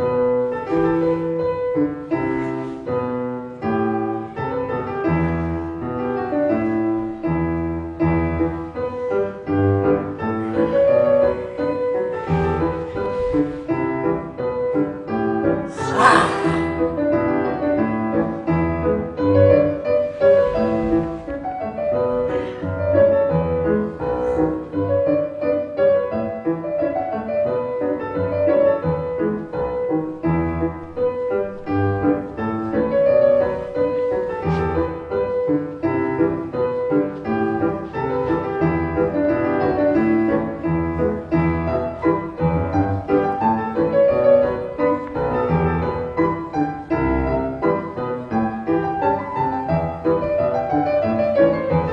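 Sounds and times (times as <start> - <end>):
piano music: 0.0 - 51.9.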